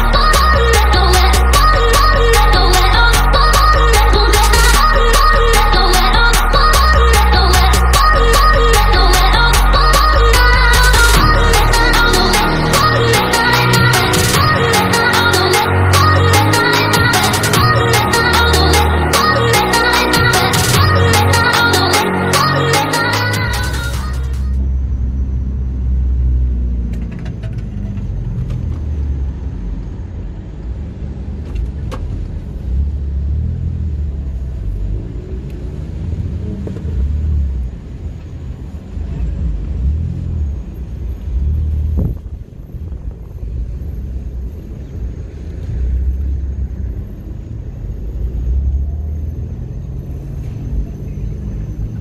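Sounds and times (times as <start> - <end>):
engine and road rumble in car: 0.0 - 20.0, 24.3 - 52.0.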